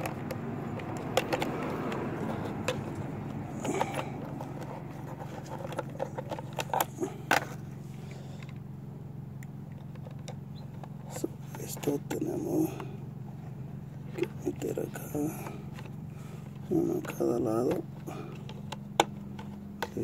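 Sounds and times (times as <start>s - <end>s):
plastic parts clicking and scraping: 0.0s - 8.6s, 9.7s - 20.0s.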